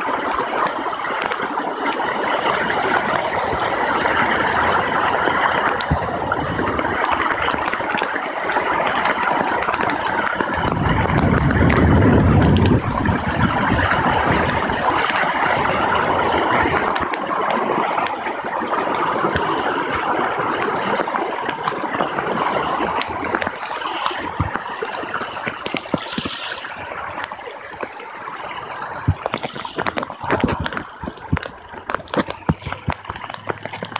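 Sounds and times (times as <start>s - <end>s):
floodwater rushing and gurgling: 0.0s - 33.9s.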